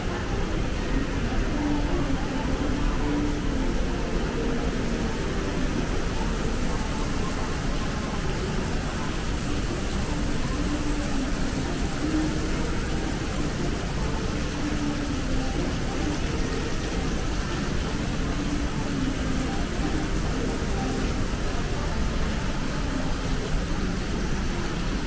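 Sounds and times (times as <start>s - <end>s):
faint distant voices: 0.0s - 25.0s
indistinct background noise: 0.0s - 25.0s.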